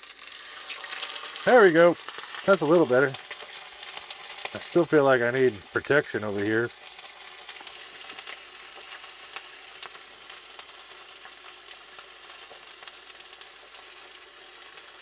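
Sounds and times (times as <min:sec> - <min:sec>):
chicken sizzling in hot grease: 0:00.0 - 0:15.0
crackling pops of frying: 0:00.0 - 0:15.0.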